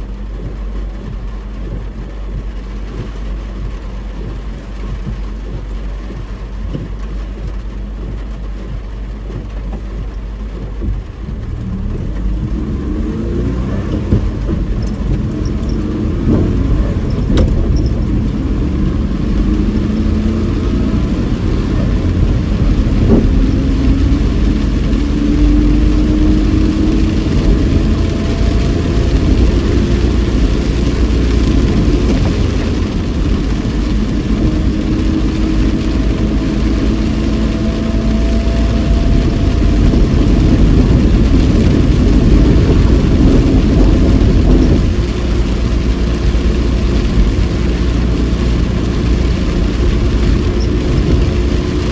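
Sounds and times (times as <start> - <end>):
car engine and tyre rumble: 0.0 - 51.9
wet road hiss: 0.0 - 51.9.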